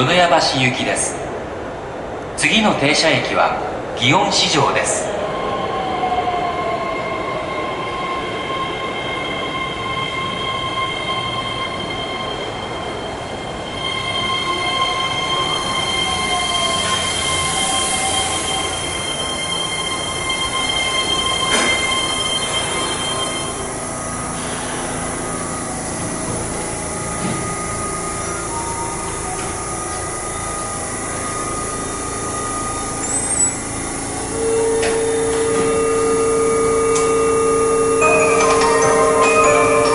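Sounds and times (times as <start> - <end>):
high train whine: 0.0 - 39.9
train rumble: 0.0 - 39.9.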